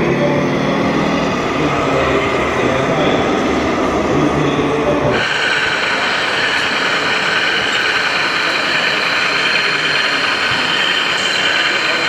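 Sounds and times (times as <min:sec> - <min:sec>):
model truck mechanical whir: 0:00.0 - 0:12.0.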